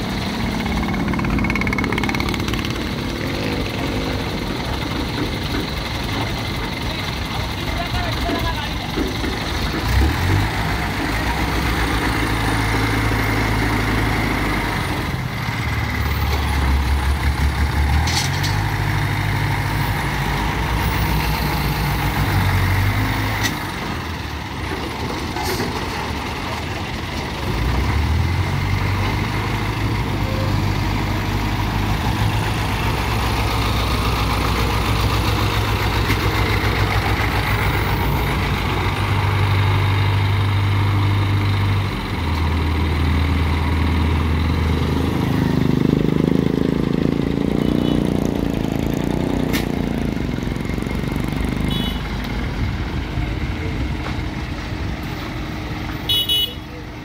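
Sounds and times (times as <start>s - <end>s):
crane diesel engine revving: 8.9s - 25.1s, 26.0s - 55.9s.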